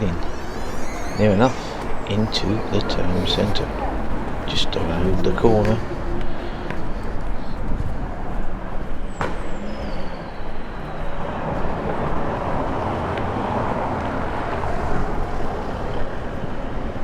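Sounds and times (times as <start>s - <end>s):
road traffic passing: 0.0s - 17.0s
wind buffeting microphone: 0.0s - 17.0s.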